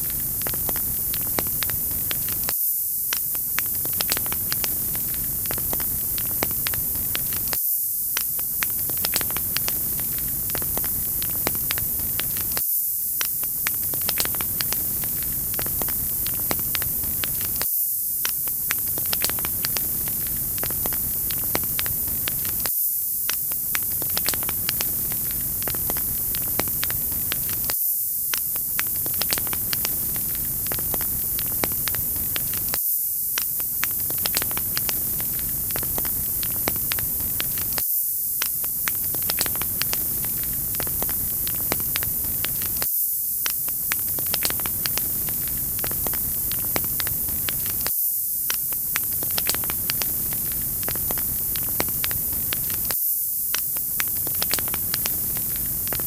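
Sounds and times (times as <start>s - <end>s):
wood fire crackling and popping: 0.0s - 12.6s, 13.2s - 37.8s, 38.4s - 56.0s.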